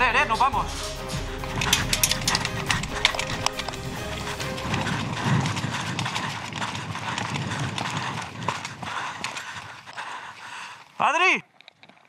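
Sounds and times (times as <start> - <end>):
running footsteps on dirt: 0.5 - 12.0.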